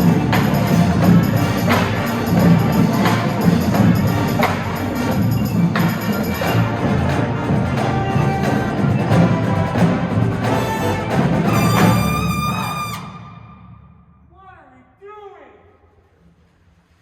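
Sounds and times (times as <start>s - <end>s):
marching band playing: 0.0s - 14.1s
sharp percussion hits: 0.0s - 14.5s.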